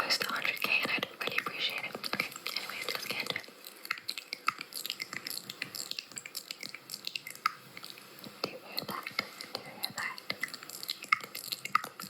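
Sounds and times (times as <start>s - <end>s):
small wet clicks and crackles: 0.0s - 12.0s.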